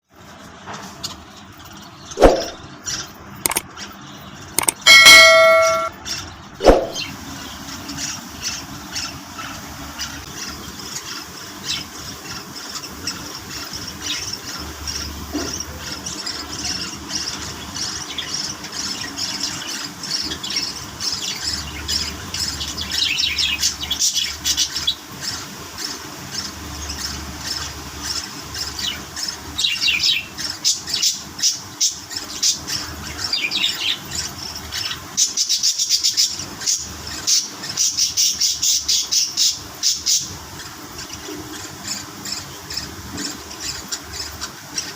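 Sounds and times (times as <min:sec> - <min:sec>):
budgerigars chirping and chattering: 0:00.8 - 0:44.9.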